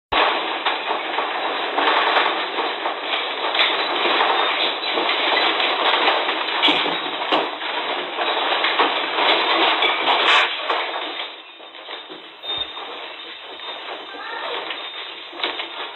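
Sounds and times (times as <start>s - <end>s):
house rattling in an earthquake: 0.1s - 15.9s.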